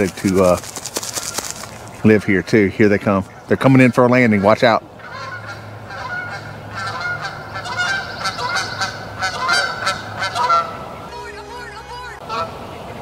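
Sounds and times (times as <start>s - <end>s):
geese honking: 0.4s - 13.0s.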